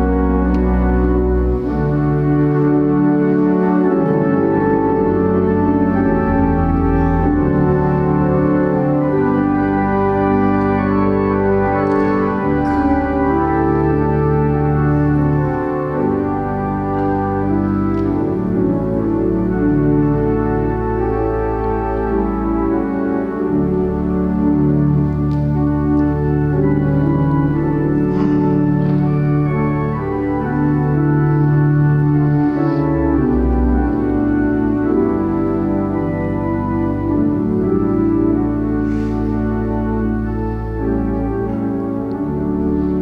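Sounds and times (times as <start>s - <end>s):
church organ chords: 0.0s - 43.0s.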